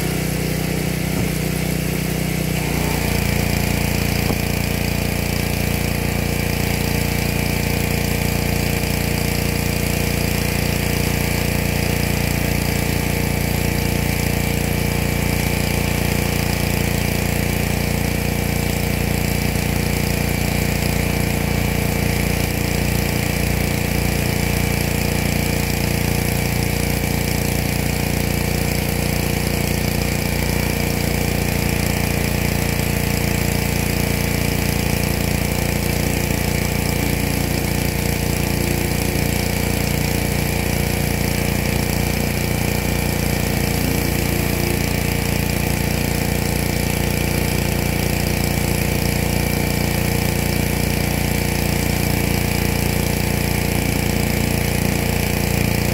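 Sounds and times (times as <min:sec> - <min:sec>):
pressure washer running: 0:00.0 - 0:55.9.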